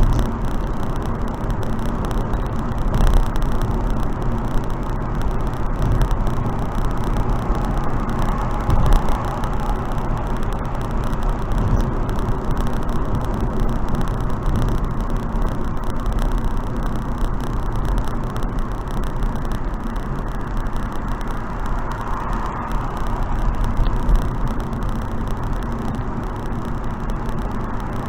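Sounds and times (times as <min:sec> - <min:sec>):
car wind and road noise: 0:00.0 - 0:28.0
low rumble: 0:00.0 - 0:28.0.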